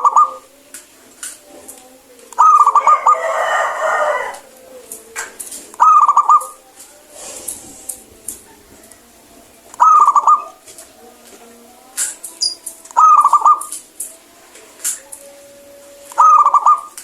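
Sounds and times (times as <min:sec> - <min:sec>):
dove cooing: 0:00.0 - 0:17.0.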